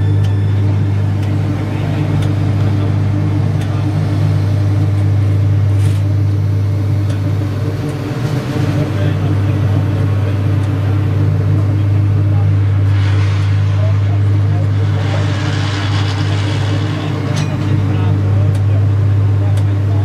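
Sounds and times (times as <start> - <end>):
faint machinery clicks: 0.0 - 13.3, 14.2 - 20.0
paving machine engine droning: 0.0 - 20.0.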